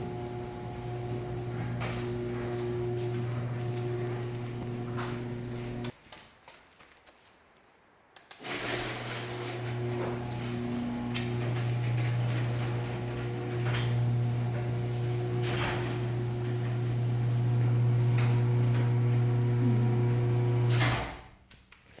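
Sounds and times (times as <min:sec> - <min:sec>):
garage door opener motor: 0:00.0 - 0:05.9, 0:08.4 - 0:21.2.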